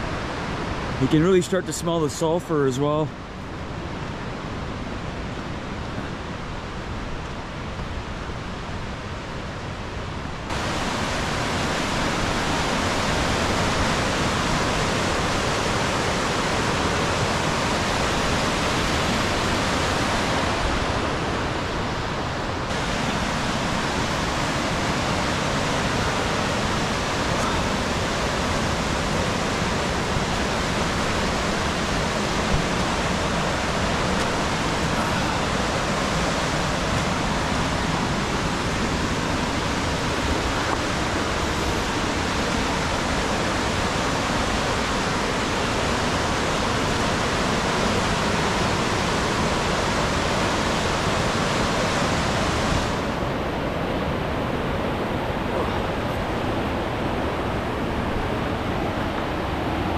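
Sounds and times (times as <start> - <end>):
river rapids roaring: 0.0 - 59.9.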